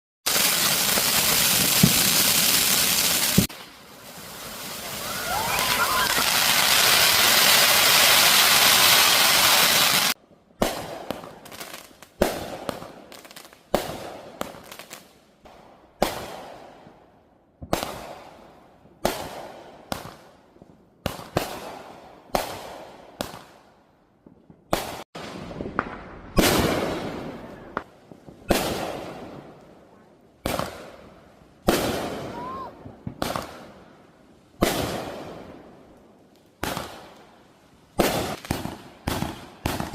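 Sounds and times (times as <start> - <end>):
fireworks bangs and crackle: 0.3 - 39.9.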